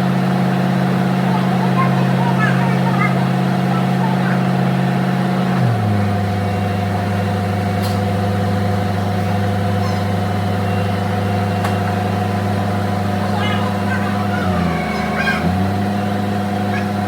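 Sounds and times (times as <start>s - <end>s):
heavy vehicle engine idling: 0.0s - 17.0s.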